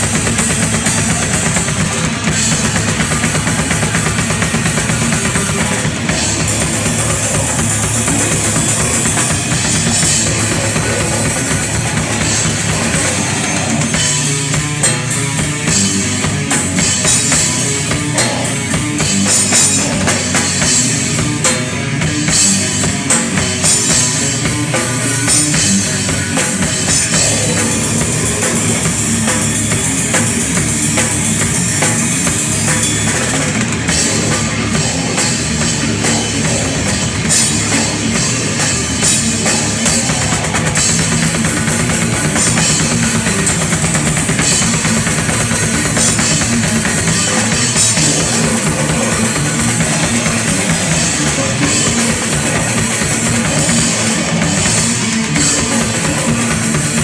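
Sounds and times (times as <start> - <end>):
drums and cymbals: 0.0 - 57.0
electric guitar: 0.0 - 57.0.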